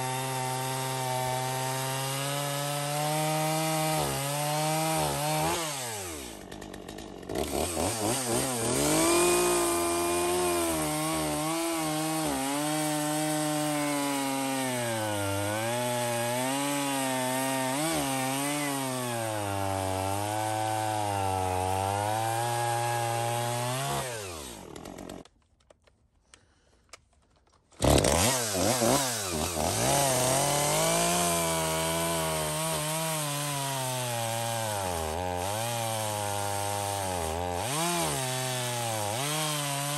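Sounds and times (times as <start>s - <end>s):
chainsaw cutting wood: 0.0s - 25.4s, 27.7s - 39.9s.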